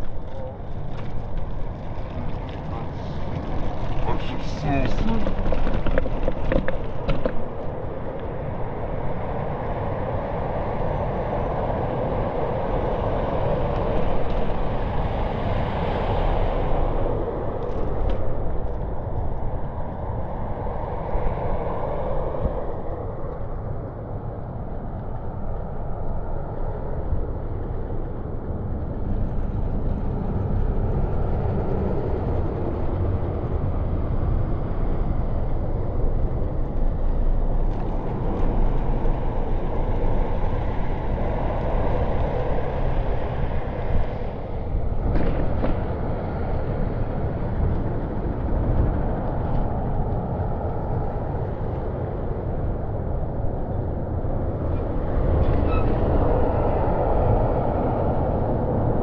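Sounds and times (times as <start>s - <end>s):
city street traffic: 0.0s - 59.0s
steady low rumble: 0.0s - 59.0s.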